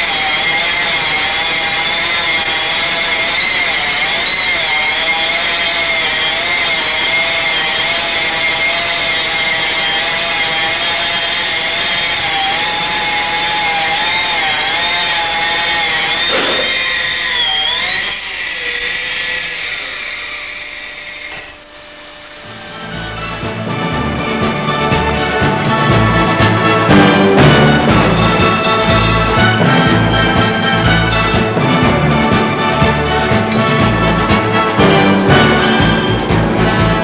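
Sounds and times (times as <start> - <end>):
stone-cutting machine whine: 0.0 - 37.0.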